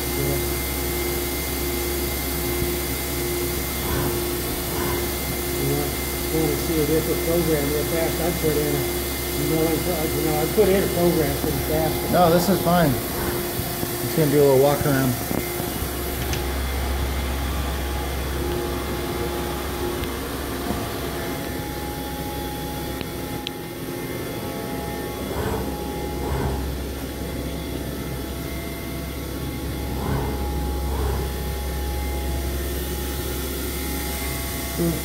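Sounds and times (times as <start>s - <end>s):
machining center whirring: 0.0s - 35.0s.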